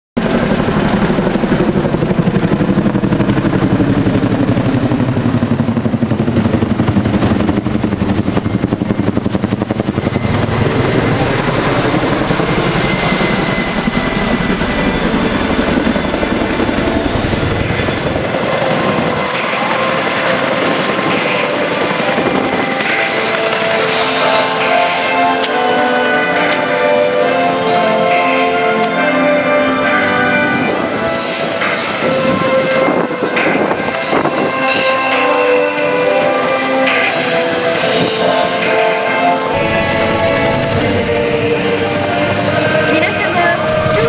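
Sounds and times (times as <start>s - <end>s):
helicopter rotors chopping: 0.2s - 44.0s
high whine: 0.2s - 44.0s.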